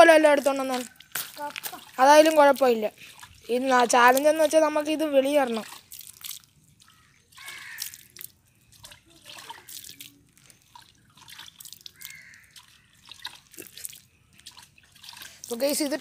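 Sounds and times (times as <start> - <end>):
water drips and splashes: 0.0 - 16.0
hand scooping water in basin: 0.4 - 16.0.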